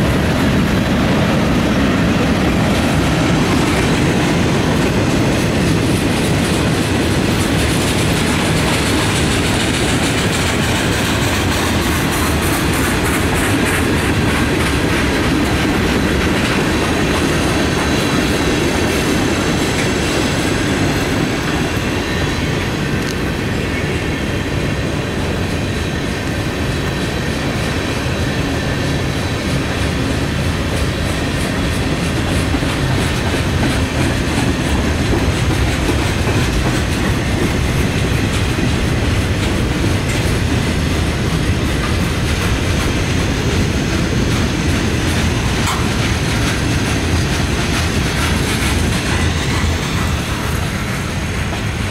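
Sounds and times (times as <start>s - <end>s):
wheels clicking over rail joints: 0.0s - 23.4s, 26.1s - 51.9s
freight train rumbling past: 0.0s - 51.9s.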